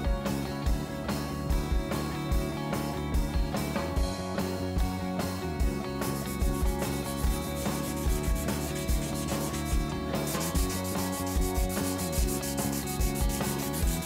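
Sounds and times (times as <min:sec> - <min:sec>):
background music with low beat: 0:00.0 - 0:14.0.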